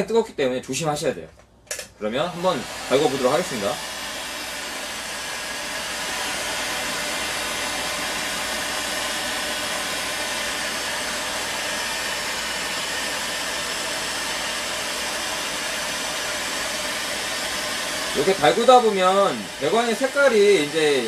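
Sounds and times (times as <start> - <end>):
heat gun blowing air: 2.2 - 21.0.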